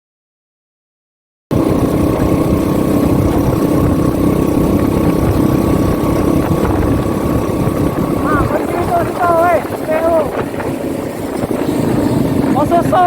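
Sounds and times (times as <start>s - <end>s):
motorcycle engines running: 1.5s - 13.0s.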